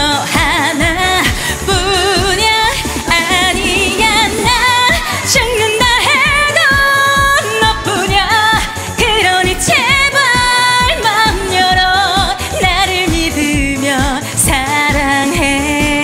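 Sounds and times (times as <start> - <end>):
dance-pop backing track: 0.0 - 16.0.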